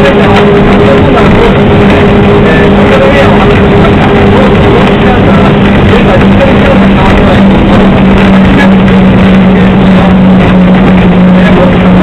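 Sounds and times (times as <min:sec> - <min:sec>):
diesel engine droning: 0:00.0 - 0:12.0
train running noise: 0:00.0 - 0:12.0.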